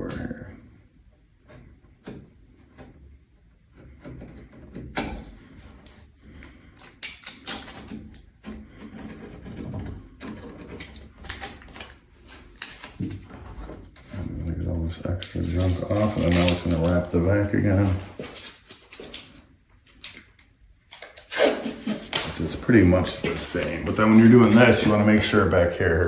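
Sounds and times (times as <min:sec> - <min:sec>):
masking tape peeling and crinkling: 0:04.9 - 0:26.0.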